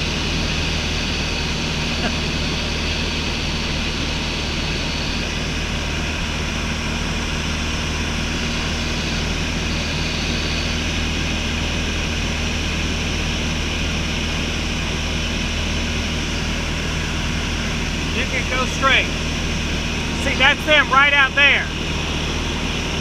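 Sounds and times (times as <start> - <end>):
airplane engine and propeller droning: 0.0 - 23.0.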